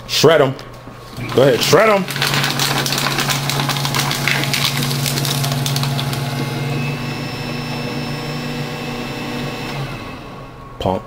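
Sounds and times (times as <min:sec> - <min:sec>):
paper shredder cutting card: 0:01.2 - 0:10.5
shredder motor humming: 0:01.2 - 0:10.7.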